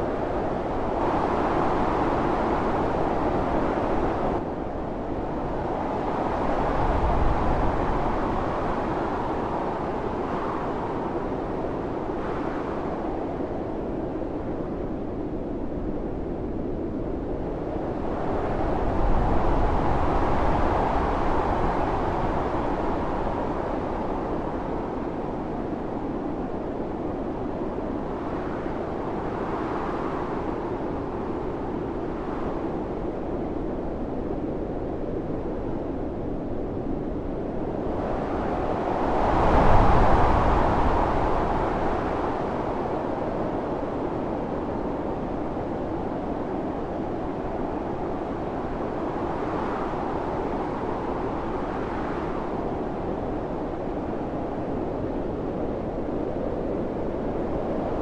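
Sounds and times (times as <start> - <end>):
blizzard wind gusting: 0.0 - 58.0.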